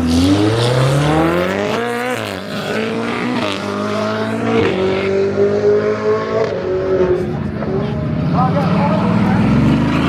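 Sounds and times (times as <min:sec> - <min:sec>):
supercar engine accelerating hard: 0:00.0 - 0:10.0.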